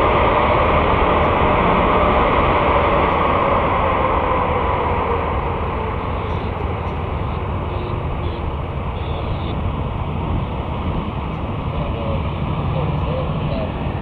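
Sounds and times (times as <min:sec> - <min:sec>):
jet engine rush and whine: 0:00.0 - 0:14.0.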